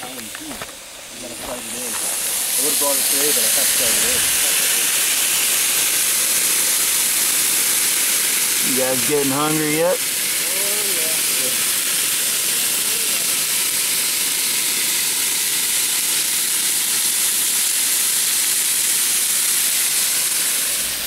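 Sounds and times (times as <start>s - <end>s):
steaks sizzling on a grill: 0.0s - 21.0s.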